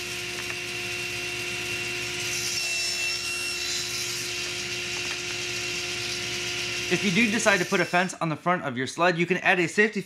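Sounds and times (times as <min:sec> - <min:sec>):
table saw running: 0:00.0 - 0:08.2.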